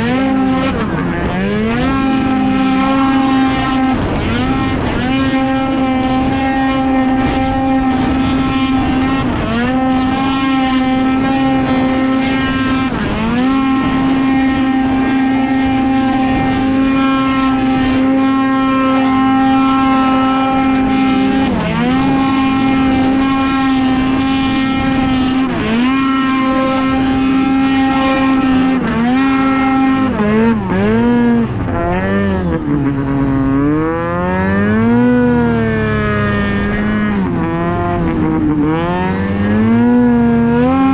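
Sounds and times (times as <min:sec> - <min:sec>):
snowmobile engine at full throttle: 0:00.0 - 0:40.9.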